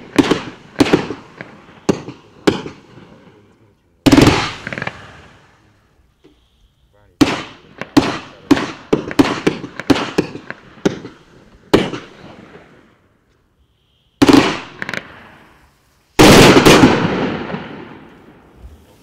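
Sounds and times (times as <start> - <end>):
firework shots: 0.0 - 13.3, 14.1 - 19.0.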